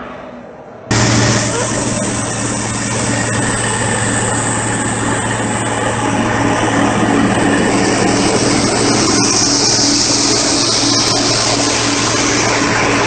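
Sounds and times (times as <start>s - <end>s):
diesel engine droning: 0.9s - 13.0s.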